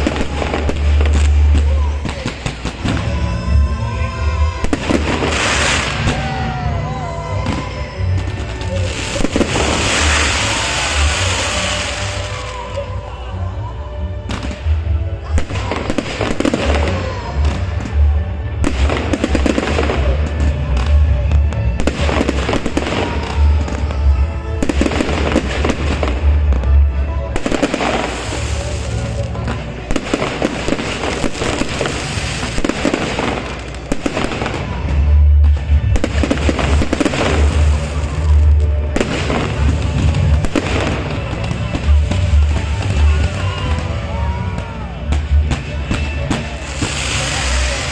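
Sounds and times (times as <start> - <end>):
fireworks bangs and crackles: 0.0 - 47.9
music playing: 0.0 - 47.9
voices: 0.0 - 47.9.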